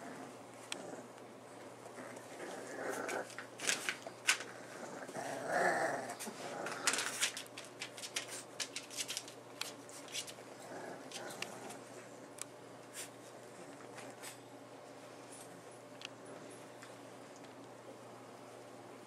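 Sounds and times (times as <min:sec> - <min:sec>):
paws scratching on blanket: 0:00.0 - 0:15.7.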